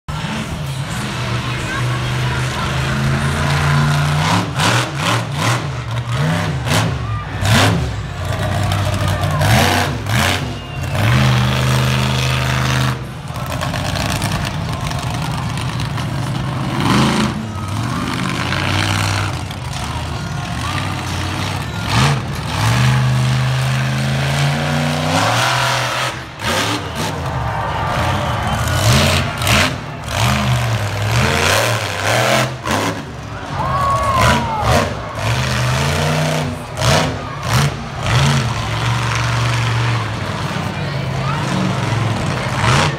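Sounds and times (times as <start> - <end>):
truck engine revving hard: 0.1 - 42.9.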